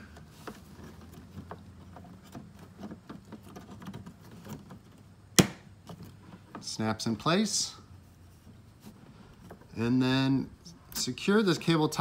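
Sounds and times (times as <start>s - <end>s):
faint handling clicks and rustles: 0.0s - 12.0s.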